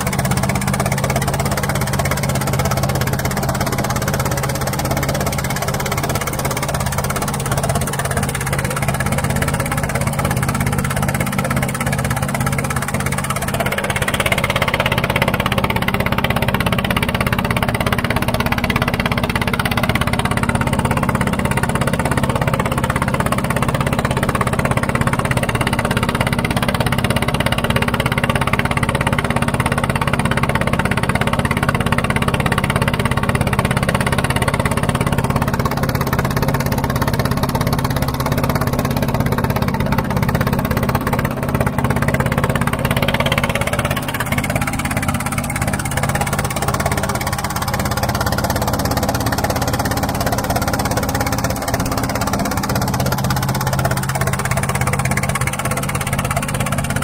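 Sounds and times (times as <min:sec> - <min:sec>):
motorboat engine droning: 0:00.0 - 0:57.0.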